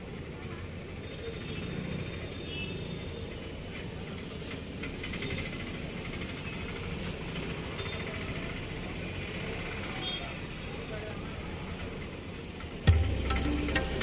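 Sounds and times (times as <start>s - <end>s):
auto rickshaw engine running: 0.0s - 14.0s
street traffic rumble: 0.0s - 14.0s.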